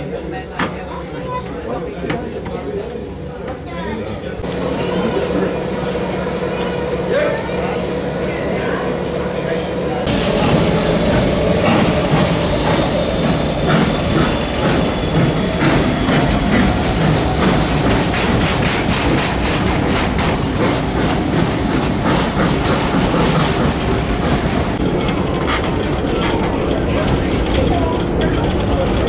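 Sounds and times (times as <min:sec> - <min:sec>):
train rolling rumble: 0:00.0 - 0:29.0.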